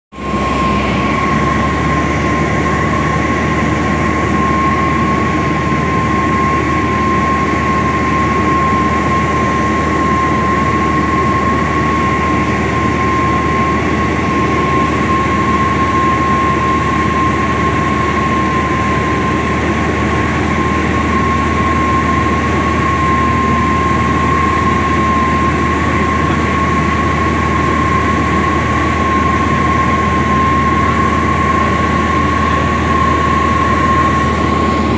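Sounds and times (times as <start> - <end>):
aeroplane engine drone: 0.1 - 34.9
high-pitched whine: 0.2 - 34.9.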